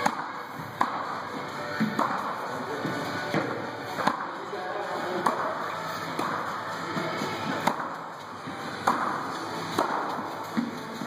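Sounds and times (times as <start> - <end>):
tennis rackets hitting balls: 0.0 - 4.4, 5.0 - 11.0
background music: 0.0 - 11.0.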